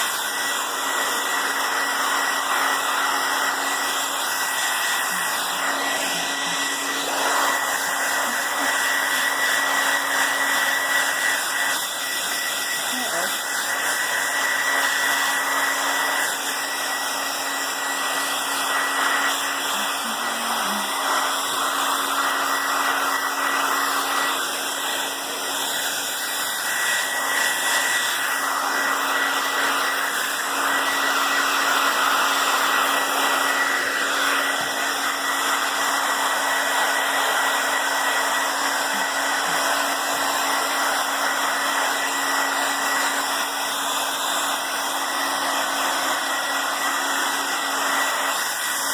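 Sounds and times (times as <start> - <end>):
blow dryer running: 0.0 - 48.9.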